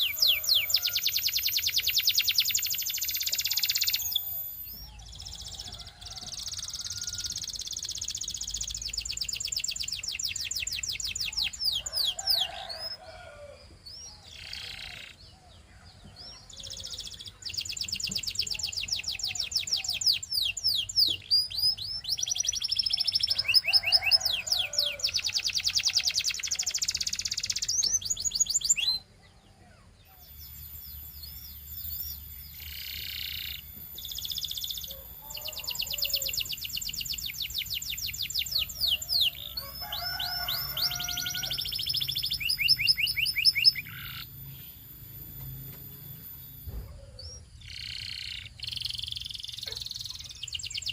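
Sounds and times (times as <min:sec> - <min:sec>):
canary trilling song: 0:00.0 - 0:50.9.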